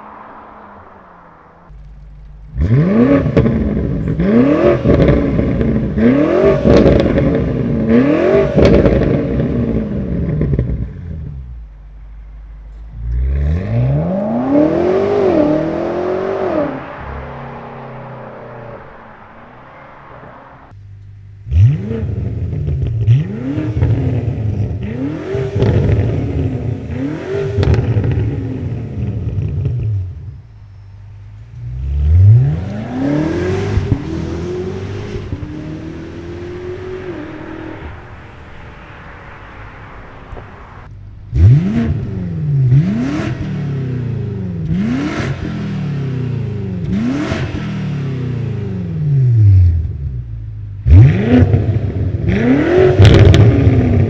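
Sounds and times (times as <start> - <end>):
exhaust cracks: 0.0 - 45.6, 49.6 - 54.0
car engine revving: 0.0 - 54.0.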